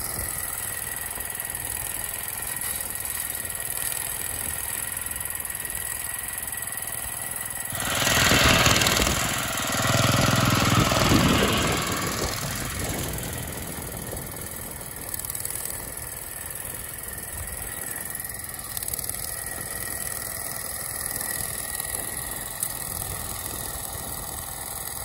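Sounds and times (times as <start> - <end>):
small engine running under load: 0.0 - 25.0.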